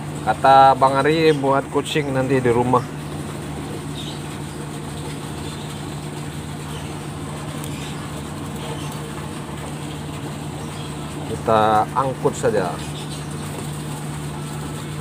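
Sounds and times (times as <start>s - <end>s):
ship engine idling: 0.0s - 15.0s.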